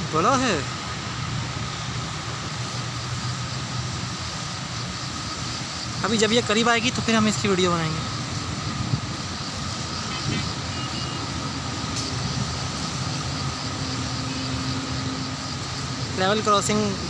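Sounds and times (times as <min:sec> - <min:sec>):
rumble of vehicles: 0:00.0 - 0:17.0.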